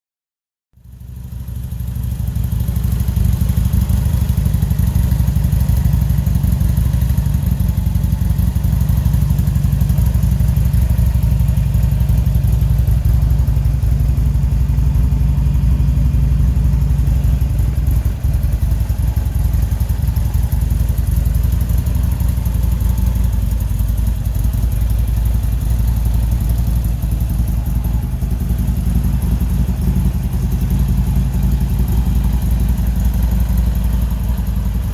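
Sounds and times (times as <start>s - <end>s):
motorcycle engine running: 0.8s - 34.9s.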